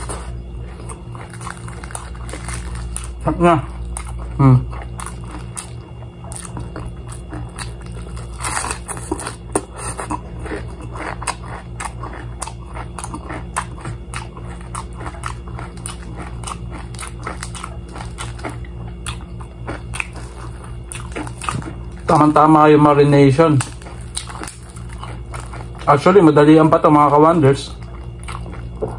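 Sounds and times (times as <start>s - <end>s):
chewing crispy fried chicken: 0.0s - 28.9s
steady low hum: 0.0s - 28.9s.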